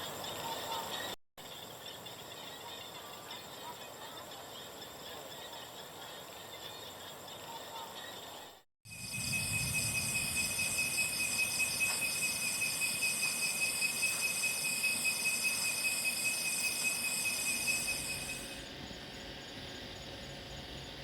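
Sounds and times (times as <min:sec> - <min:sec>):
insects whining and chirping: 0:00.0 - 0:21.0.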